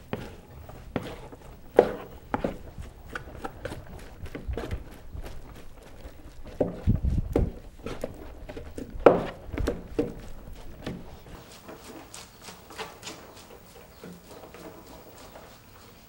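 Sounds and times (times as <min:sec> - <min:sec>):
paddle scraping through rice: 0:00.0 - 0:16.0.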